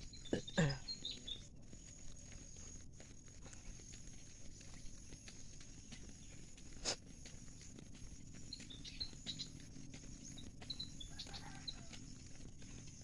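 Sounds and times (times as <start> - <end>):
footsteps on a trail: 0.0 - 13.0.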